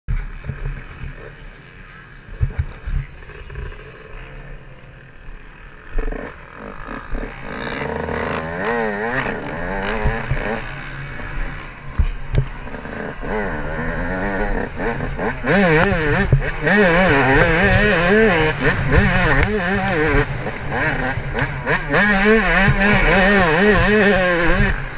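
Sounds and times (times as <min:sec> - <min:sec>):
two-stroke engine revving: 0:00.1 - 0:24.9.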